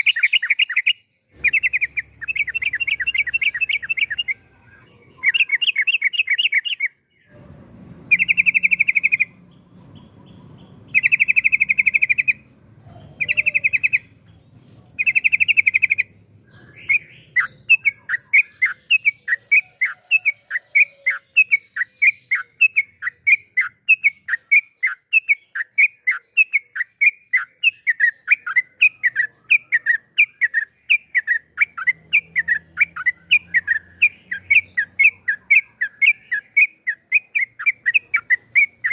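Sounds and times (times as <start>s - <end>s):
bird song trilling: 0.0s - 38.9s.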